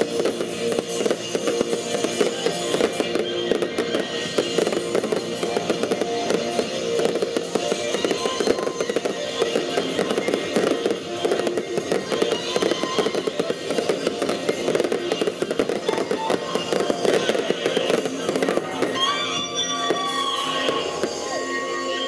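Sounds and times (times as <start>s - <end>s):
fireworks crackling: 0.0s - 22.0s
music: 0.0s - 22.0s.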